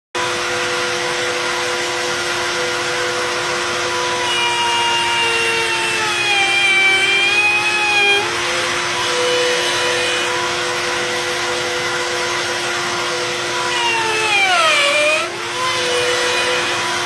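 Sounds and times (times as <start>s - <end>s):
wood router whining: 0.2s - 17.0s.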